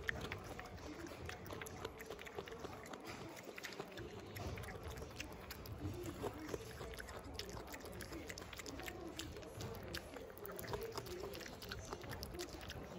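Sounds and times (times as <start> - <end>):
raccoon chewing and smacking: 0.0 - 12.9.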